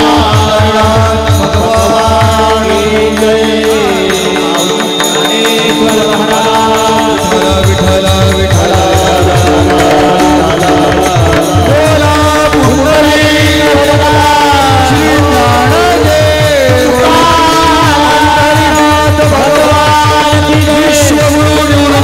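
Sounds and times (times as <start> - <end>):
drum strokes: 0.0 - 22.0
voices singing devotional song: 0.0 - 22.0.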